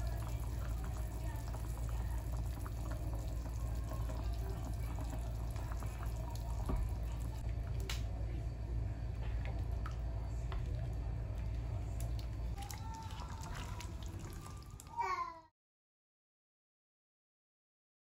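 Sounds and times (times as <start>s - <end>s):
stew bubbling in a pan: 0.0s - 15.4s.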